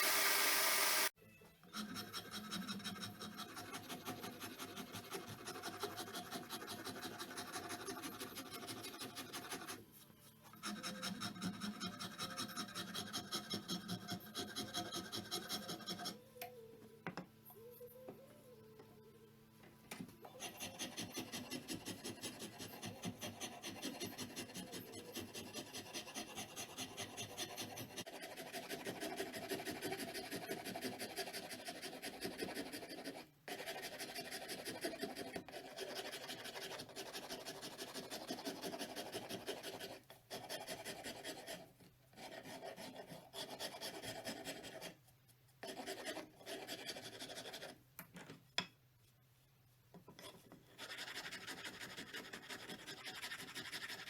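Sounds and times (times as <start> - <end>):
hand file rasping: 1.7 - 9.8, 10.5 - 16.2, 20.3 - 45.0, 45.6 - 47.8, 50.2 - 54.0.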